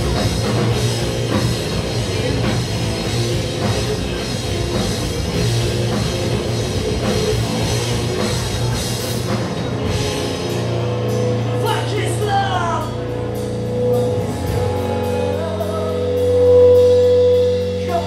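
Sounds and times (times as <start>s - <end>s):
loud live rock band: 0.0s - 18.0s.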